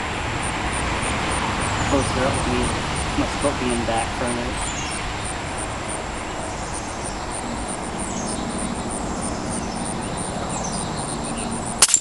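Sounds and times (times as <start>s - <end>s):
low engine hum: 0.0s - 11.8s
distant road traffic: 0.0s - 12.0s.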